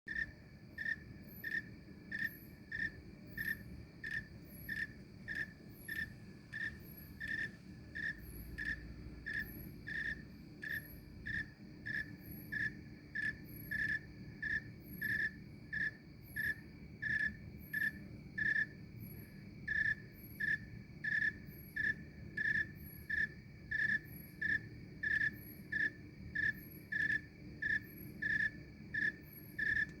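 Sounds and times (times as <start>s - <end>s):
cricket chirping: 0.1s - 30.0s.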